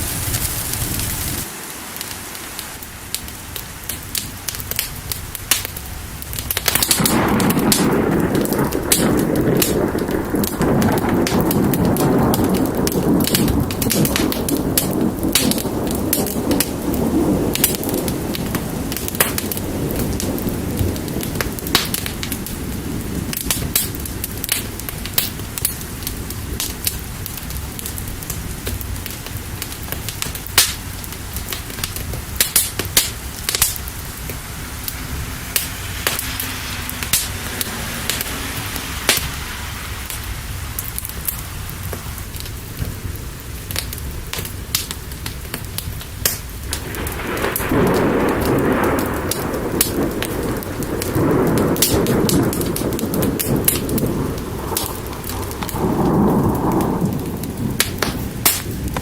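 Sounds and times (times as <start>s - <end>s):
fire crackling and popping: 0.0s - 59.0s
steady rain: 0.0s - 59.0s
low rumble of thunder: 3.1s - 59.0s.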